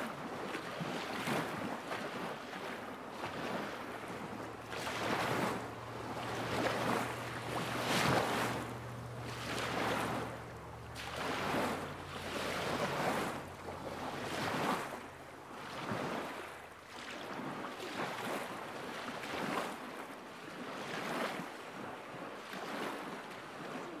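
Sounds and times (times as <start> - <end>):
lake waves lapping against shore: 0.0 - 24.0.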